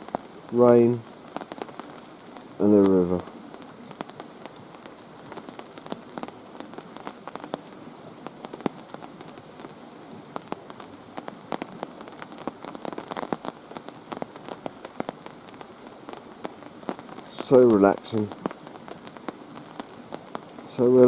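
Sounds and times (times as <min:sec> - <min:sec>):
heavy rain falling: 0:00.0 - 0:21.0
raindrops striking close by: 0:00.0 - 0:21.0
river rushing: 0:00.0 - 0:21.0.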